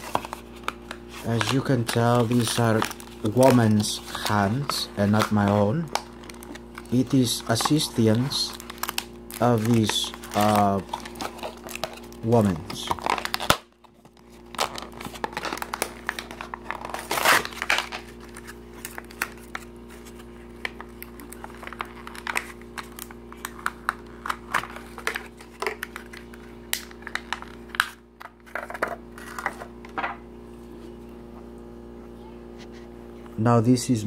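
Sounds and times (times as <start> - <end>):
plastic packaging crinkling: 0.0 - 29.7.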